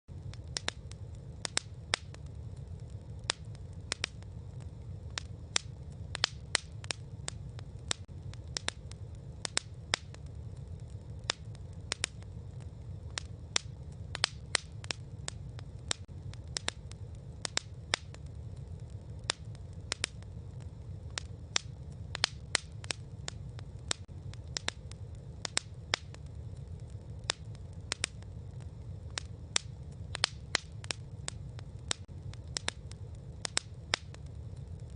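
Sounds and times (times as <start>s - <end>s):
campfire crackling: 0.1s - 34.9s
low rumble: 0.1s - 34.9s.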